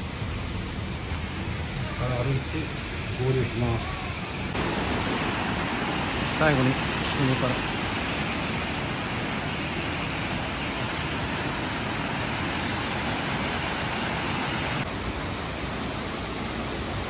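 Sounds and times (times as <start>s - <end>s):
waterfall rushing: 1.5s - 17.0s.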